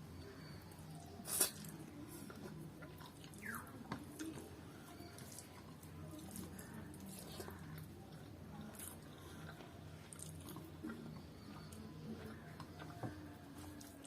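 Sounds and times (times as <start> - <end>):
faint low hum: 0.0 - 14.0
soft eating clicks: 0.2 - 14.0
person chewing food: 0.5 - 14.0.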